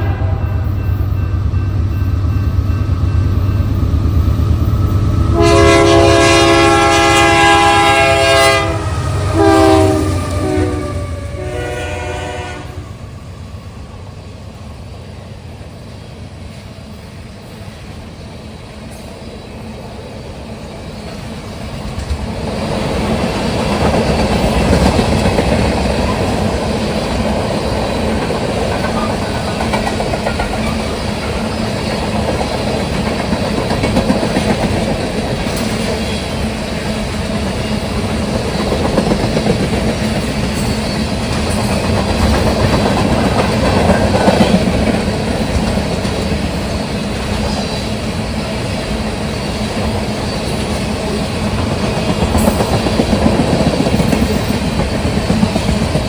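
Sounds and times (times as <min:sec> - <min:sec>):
train rolling past on track: 0:00.0 - 0:56.0.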